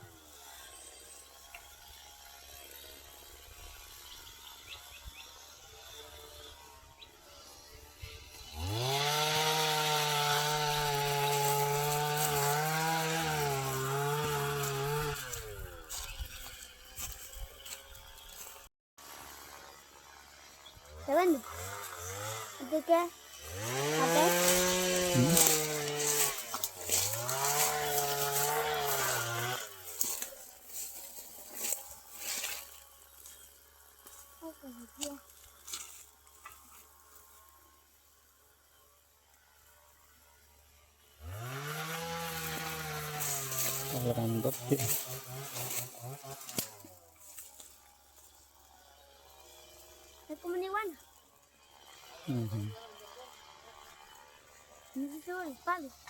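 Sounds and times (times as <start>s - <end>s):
small engine revving: 0.0s - 56.0s
small motor whirring: 0.0s - 56.0s.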